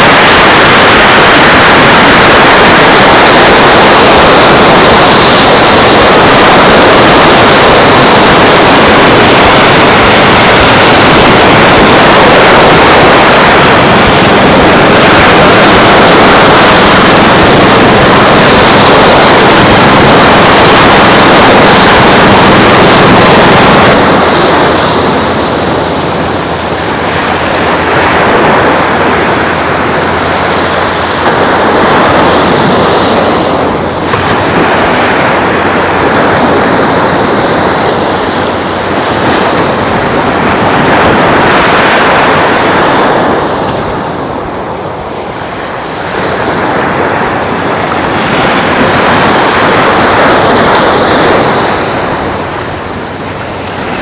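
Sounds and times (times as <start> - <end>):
ocean surf washing onto beach: 0.0 - 54.0
wind blowing across microphone: 0.0 - 54.0.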